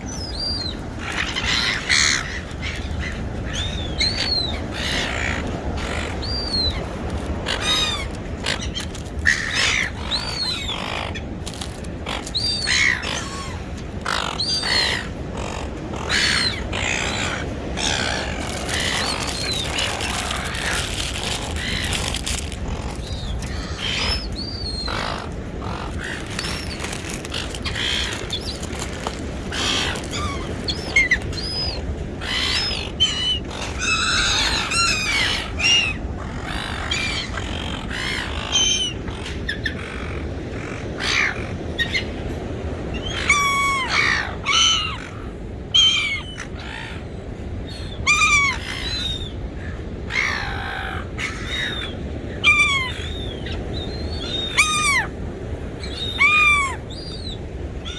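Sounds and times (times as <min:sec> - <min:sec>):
seagulls calling: 0:00.0 - 0:57.9.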